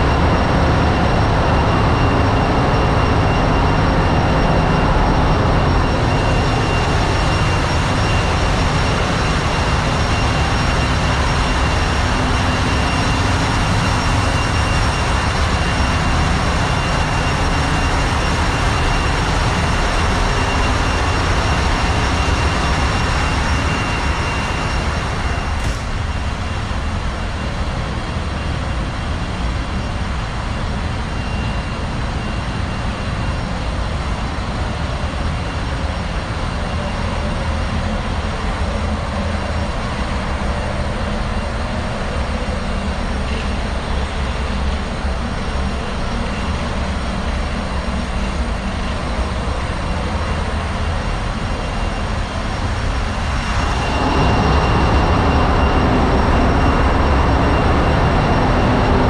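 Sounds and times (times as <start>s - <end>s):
engine room machinery drone: 0.0s - 59.0s
faint high whine: 0.0s - 59.0s.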